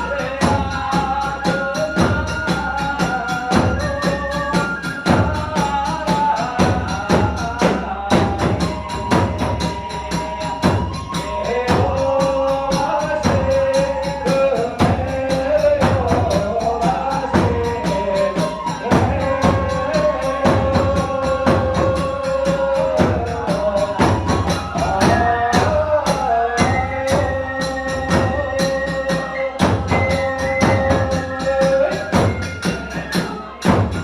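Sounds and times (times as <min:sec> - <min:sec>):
drum beat: 0:00.0 - 0:34.0.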